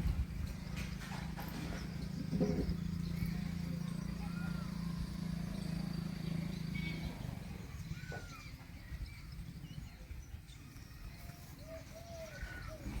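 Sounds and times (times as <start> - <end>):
bird chirps: 0.4 - 13.0.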